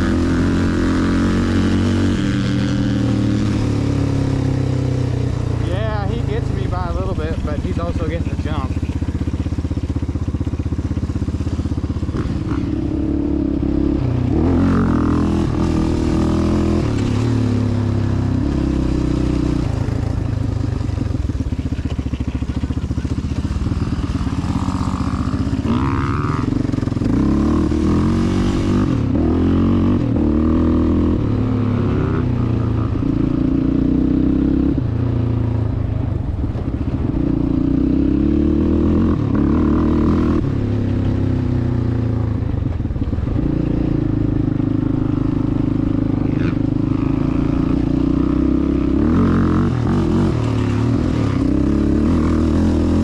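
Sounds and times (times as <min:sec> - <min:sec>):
atv engine revving: 0:00.0 - 0:53.0
dirt bike engines: 0:00.0 - 0:53.0.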